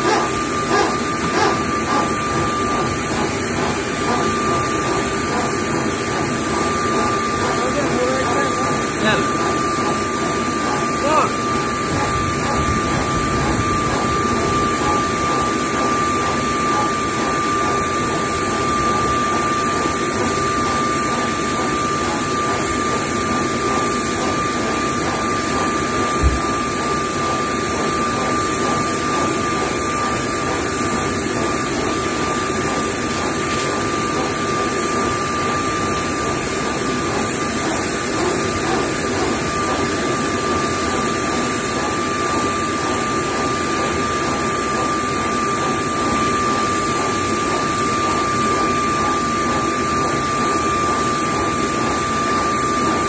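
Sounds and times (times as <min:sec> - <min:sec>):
aircraft systems whine and rush: 0:00.0 - 0:53.0.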